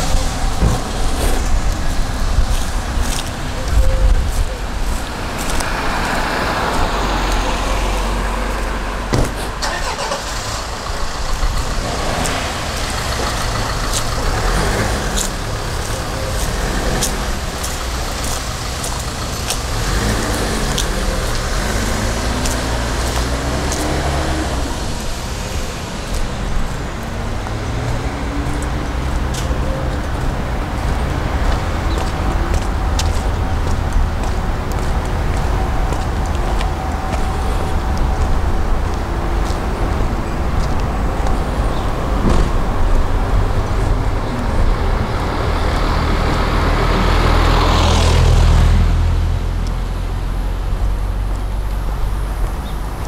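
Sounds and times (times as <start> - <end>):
cars passing: 0.0 - 53.0
low traffic rumble: 0.0 - 53.0.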